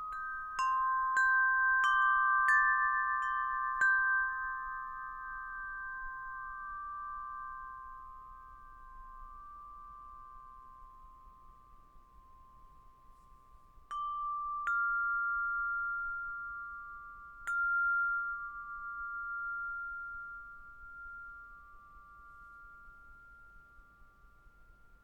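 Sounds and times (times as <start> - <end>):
tuned metal chimes ringing: 0.0 - 25.0.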